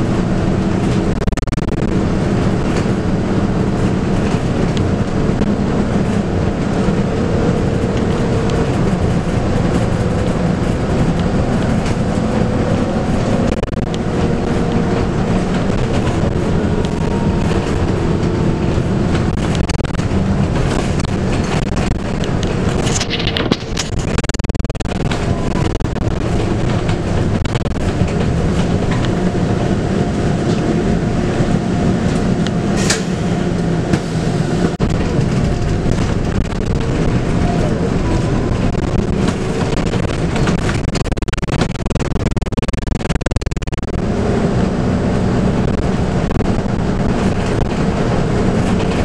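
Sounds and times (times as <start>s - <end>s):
bus diesel engine running: 0.0s - 49.0s
road and tyre noise: 0.0s - 49.0s
body rattles and knocks: 0.6s - 30.6s, 34.7s - 44.1s.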